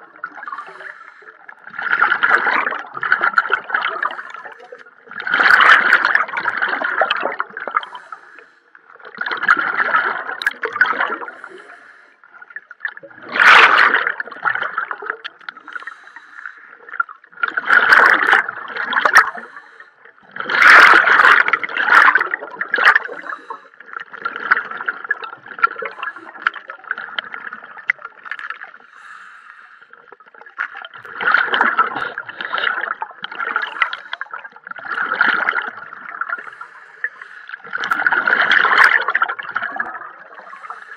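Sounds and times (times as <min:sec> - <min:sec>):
air bubbles gurgling underwater: 0:00.0 - 0:08.3, 0:08.9 - 0:11.7, 0:12.3 - 0:29.2, 0:30.0 - 0:40.9.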